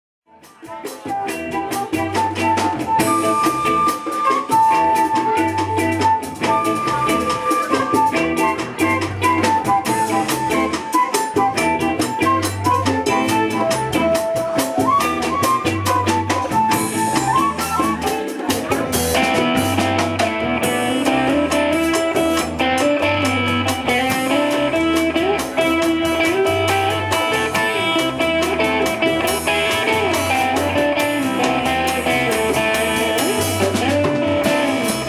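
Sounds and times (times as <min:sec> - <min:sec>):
bass line: 0:00.3 - 0:35.0
drum kit steady beat: 0:00.3 - 0:35.0
melody of held notes: 0:00.8 - 0:35.0.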